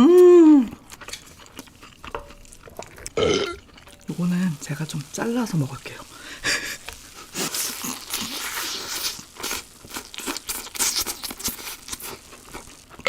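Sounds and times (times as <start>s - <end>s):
crispy fried food crunching: 0.7s - 13.0s.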